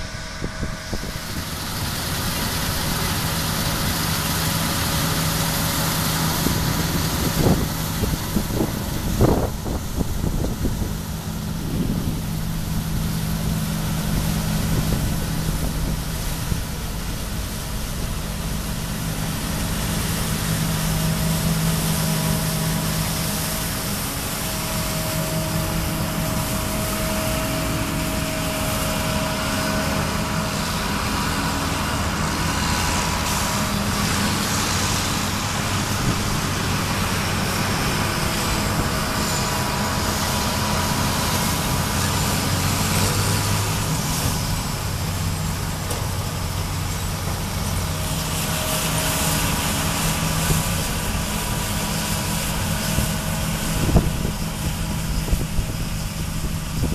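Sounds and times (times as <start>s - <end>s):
combine harvester drone: 0.0s - 56.9s.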